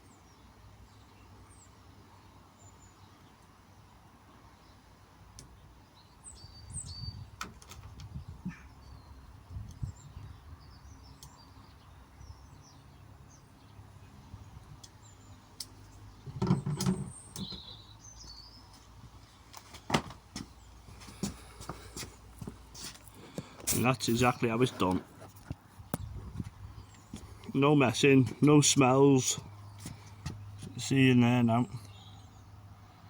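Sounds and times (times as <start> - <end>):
birds chirping: 4.5 - 33.0.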